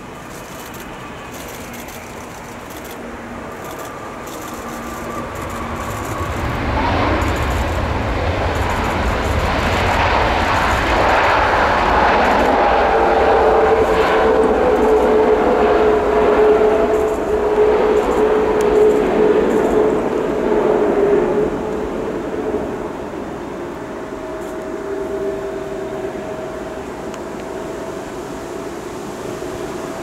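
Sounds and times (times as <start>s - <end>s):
jet engines roaring: 0.0s - 30.0s
steady whine: 0.0s - 30.0s.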